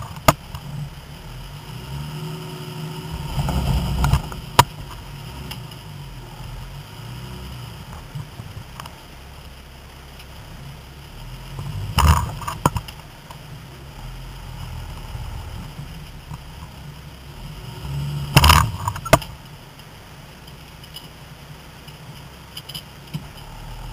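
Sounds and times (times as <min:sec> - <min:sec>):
engine idling: 0:00.0 - 0:23.9.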